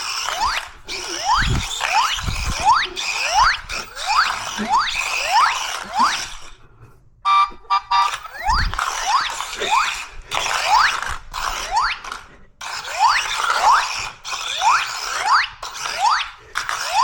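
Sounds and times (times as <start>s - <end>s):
toy car motors whirring: 0.0s - 6.7s, 7.8s - 17.0s.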